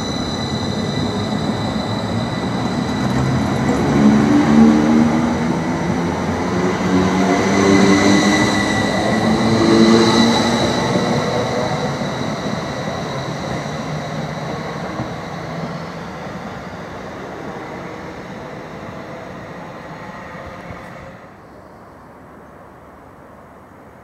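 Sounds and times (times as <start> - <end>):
wheels rumbling on rail: 0.0 - 21.3
electric train whine: 0.0 - 23.4.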